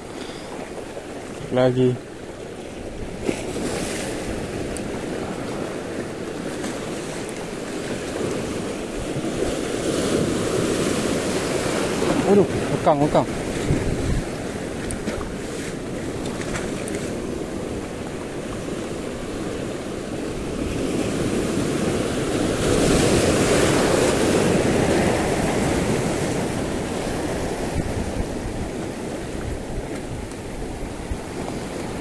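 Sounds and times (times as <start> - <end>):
sea surf washing ashore: 0.0 - 32.0
wave breaking: 3.0 - 30.3.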